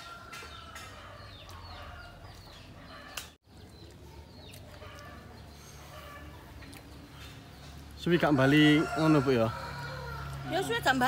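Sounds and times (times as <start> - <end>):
chickens clucking and calling: 0.0 - 10.4.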